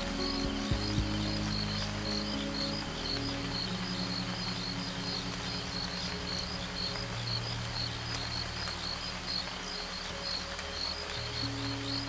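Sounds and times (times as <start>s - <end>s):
steady hiss: 0.0s - 12.0s
sustained low music chords: 0.0s - 12.0s.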